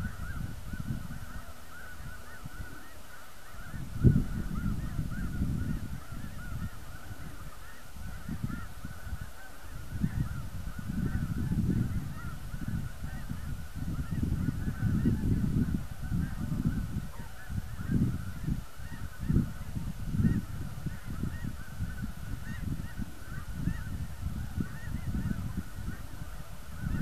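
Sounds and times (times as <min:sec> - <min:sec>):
geese honking: 0:00.0 - 0:27.0
wind buffeting microphone: 0:00.0 - 0:27.0.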